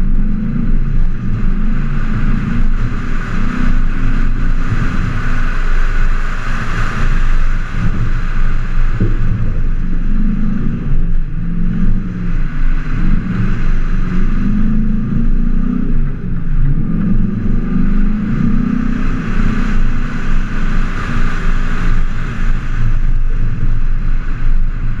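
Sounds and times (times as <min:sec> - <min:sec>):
tyre and road rumble: 0:00.0 - 0:25.0
vehicle engine running: 0:00.0 - 0:25.0
wind rush: 0:00.0 - 0:25.0.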